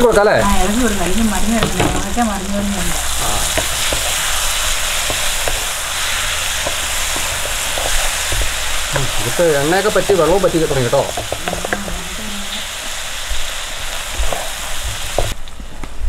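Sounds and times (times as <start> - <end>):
food sizzling in oil in a pan: 0.0 - 15.4.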